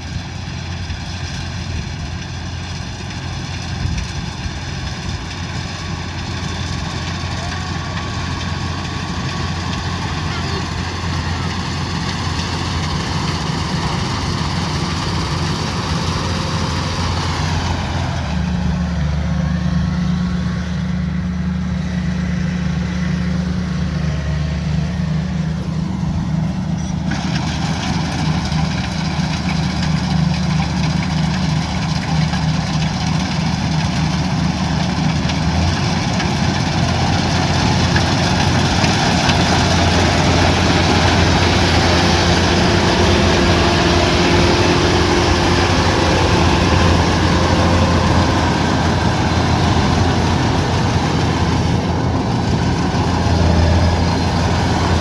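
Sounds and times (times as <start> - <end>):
machinery clatter: 0.0 - 19.6, 25.1 - 55.0
diesel engine running under load: 0.0 - 55.0.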